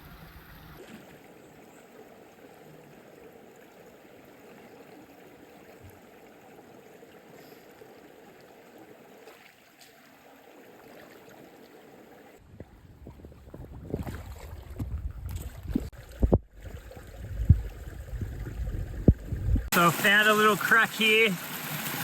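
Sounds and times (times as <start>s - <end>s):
creek running over rocks: 0.0s - 22.0s.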